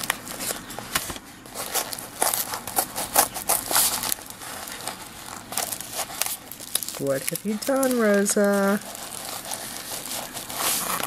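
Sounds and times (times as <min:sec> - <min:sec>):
paper envelope rustling: 0:00.0 - 0:11.0.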